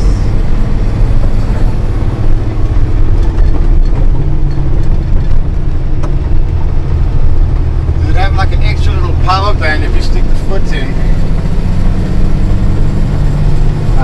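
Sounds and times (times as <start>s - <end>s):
truck diesel engine drone: 0.0s - 14.0s.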